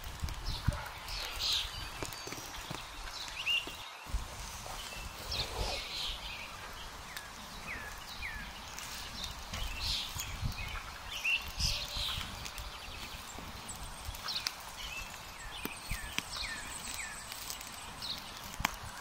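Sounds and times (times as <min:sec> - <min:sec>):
campfire crackling: 0:00.0 - 0:19.0
birds calling: 0:00.4 - 0:19.0.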